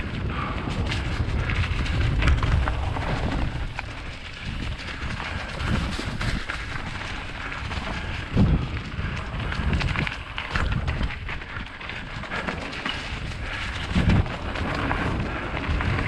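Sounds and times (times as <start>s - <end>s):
bike rattles and clicks: 0.0s - 16.0s
tyres rolling over dirt: 0.0s - 16.0s
wind buffeting microphone: 0.0s - 16.0s.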